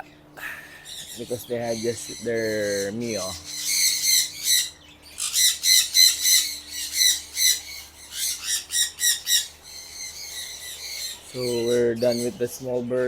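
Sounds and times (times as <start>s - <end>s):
small parrots squawking: 0.7s - 12.9s.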